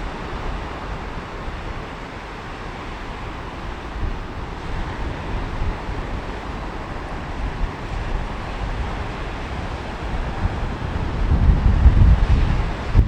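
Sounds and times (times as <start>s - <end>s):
waves washing onto beach: 0.0s - 13.0s
wind rumbling on microphone: 0.0s - 13.0s.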